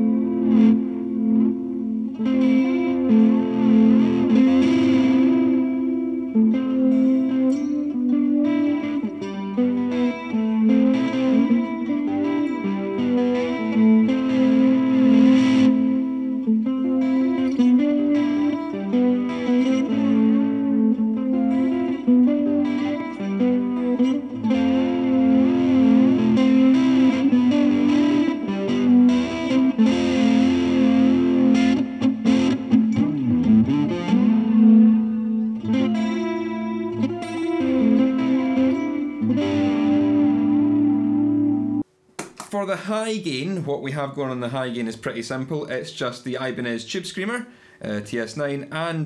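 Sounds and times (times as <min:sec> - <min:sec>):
ambient electric guitar with echo: 0:00.0 - 0:41.9.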